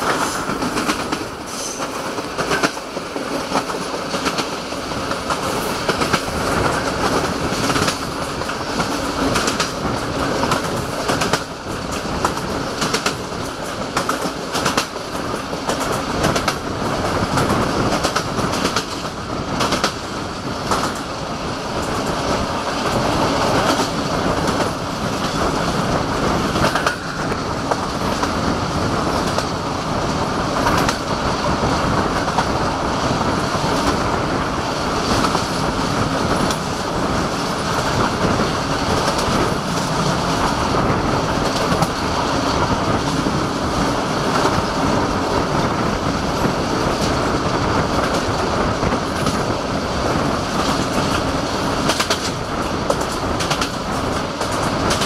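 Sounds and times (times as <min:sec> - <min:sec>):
train rumble: 0:00.0 - 0:55.0
train wheels clicking over rail joints: 0:00.0 - 0:55.0.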